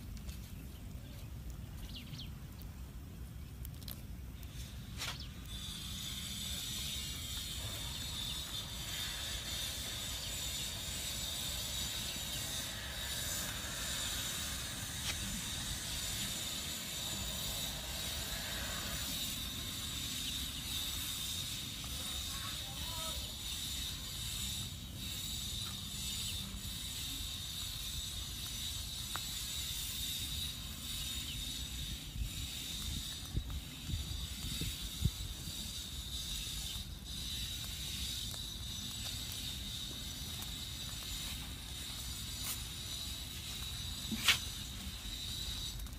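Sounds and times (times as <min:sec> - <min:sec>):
insect chorus buzzing: 0:05.5 - 0:45.8.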